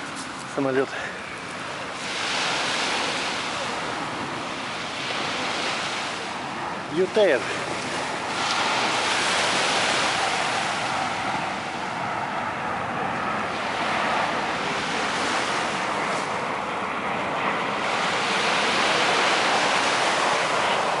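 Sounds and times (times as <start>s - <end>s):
surf breaking on shore: 0.0s - 21.0s.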